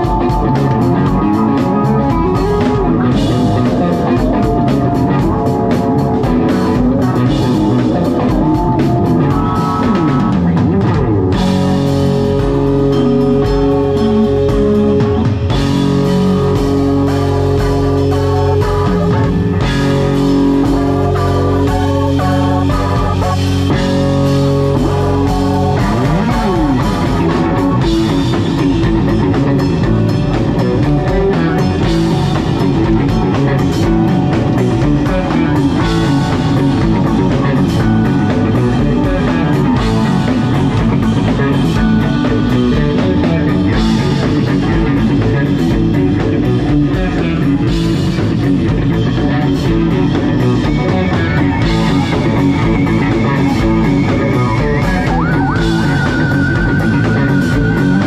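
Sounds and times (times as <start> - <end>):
electric guitar: 0.0 - 58.0
live band playing: 0.0 - 58.0.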